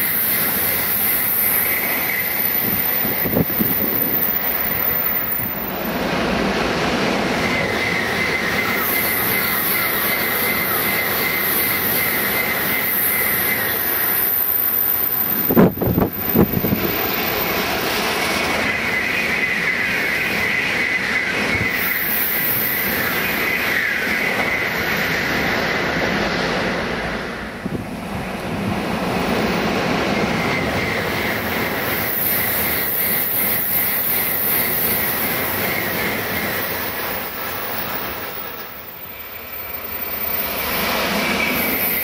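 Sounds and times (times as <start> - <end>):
high-speed train rushing past: 0.0 - 42.0.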